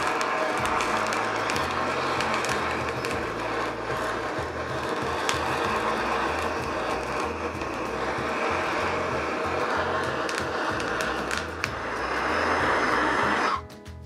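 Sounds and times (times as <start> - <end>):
blowtorch flame hissing: 0.0 - 13.6.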